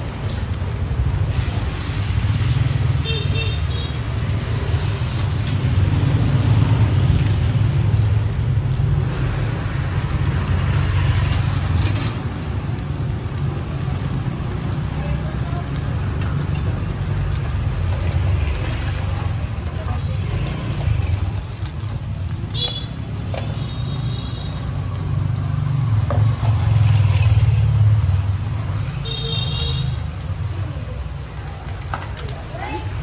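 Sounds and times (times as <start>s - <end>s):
batter sizzling in pans: 0.0s - 33.0s.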